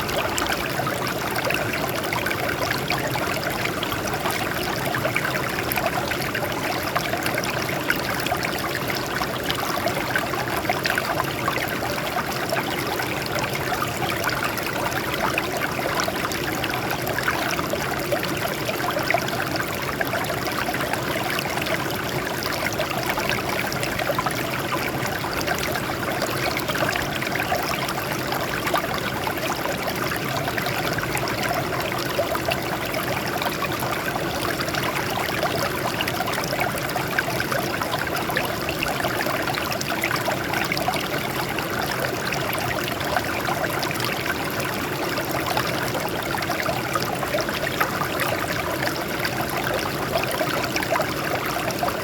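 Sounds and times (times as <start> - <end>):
stream trickling over rocks: 0.0 - 52.0.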